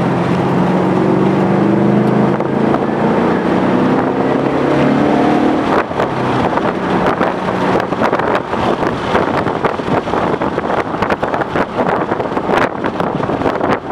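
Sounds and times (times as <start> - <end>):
car engine: 0.0 - 13.9
road noise: 0.0 - 13.9
wind buffeting microphone: 0.0 - 13.9.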